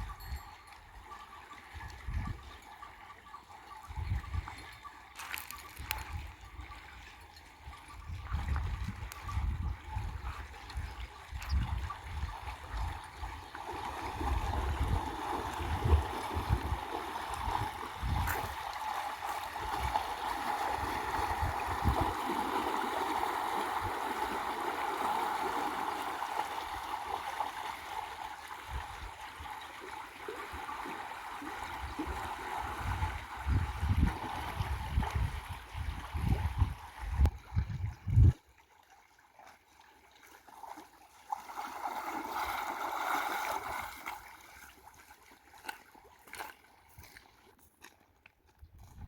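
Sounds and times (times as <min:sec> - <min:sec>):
river water flowing and gurgling: 0:00.0 - 0:48.4.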